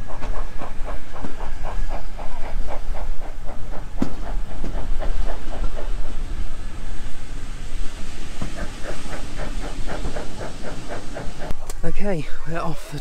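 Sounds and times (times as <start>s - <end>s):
steam locomotive exhaust beats: 0.0s - 11.9s
low rumble of carriages: 0.0s - 13.0s.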